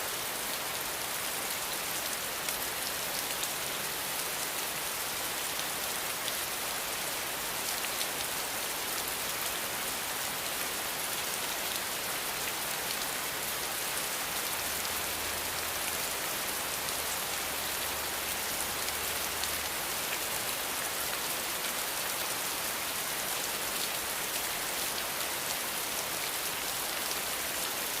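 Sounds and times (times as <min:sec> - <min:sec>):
steady rainfall: 0:00.0 - 0:28.0.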